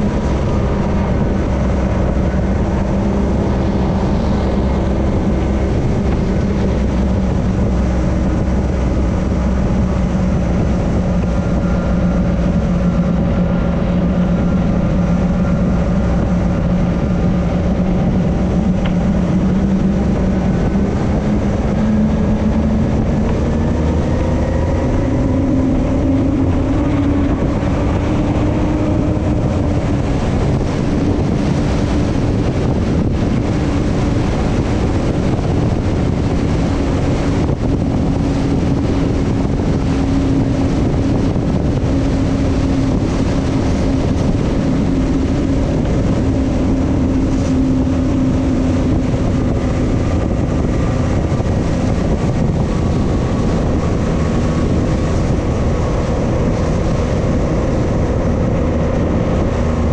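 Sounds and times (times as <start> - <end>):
powerboat engine running: 0.0 - 59.9
rush of wind and water: 0.0 - 59.9.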